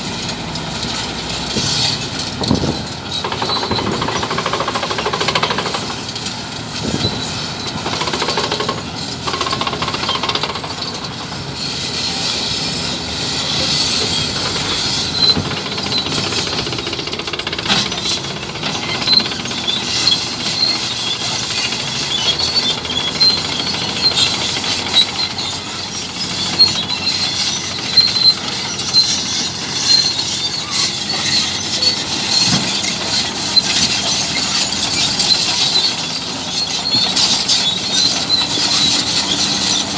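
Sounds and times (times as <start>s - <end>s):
bulldozer diesel engine running: 0.0s - 39.9s
steel tracks clanking: 0.0s - 39.9s
high squeal: 1.6s - 6.2s, 6.8s - 39.9s.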